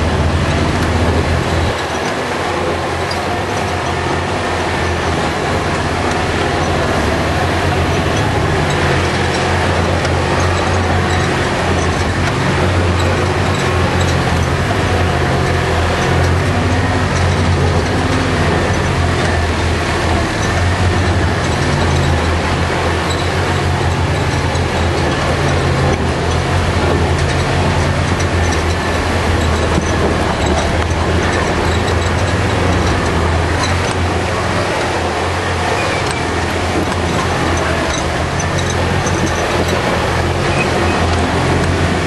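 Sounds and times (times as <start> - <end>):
truck engine droning: 0.0 - 42.0.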